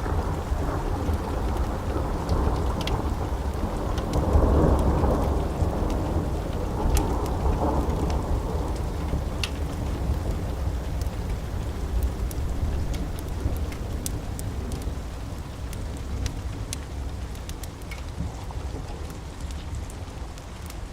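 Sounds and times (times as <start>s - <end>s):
rolling thunder rumble: 0.0s - 17.2s
wood fire popping: 0.0s - 20.0s
steady rain: 0.0s - 20.9s.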